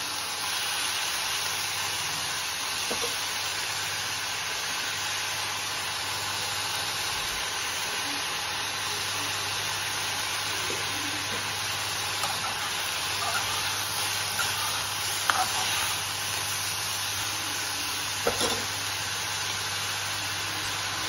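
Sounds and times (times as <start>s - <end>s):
greens sizzling in a pan: 0.0s - 21.0s.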